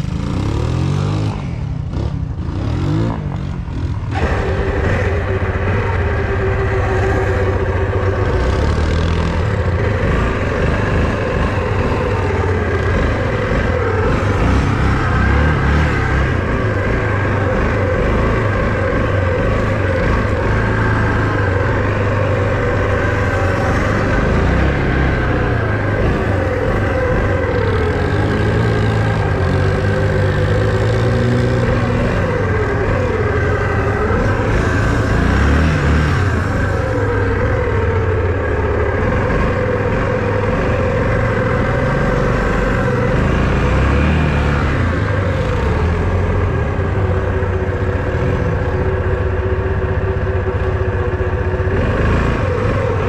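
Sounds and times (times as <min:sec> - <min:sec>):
all-terrain vehicle engine revving: 0:00.0 - 0:53.0.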